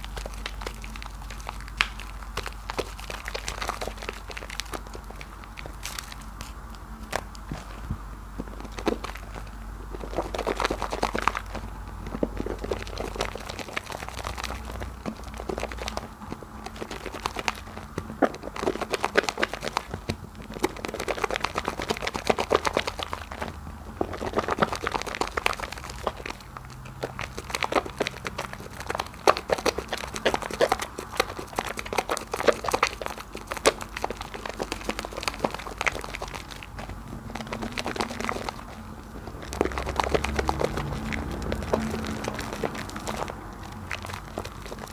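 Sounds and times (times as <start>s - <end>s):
soap lather crackling: 0.0s - 44.9s.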